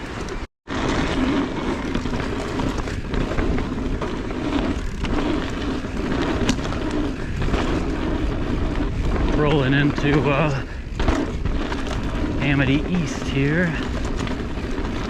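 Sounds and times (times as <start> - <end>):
bike rattles and clicks: 0.0 - 15.0
bike tyres rumbling on dirt trail: 0.0 - 15.0.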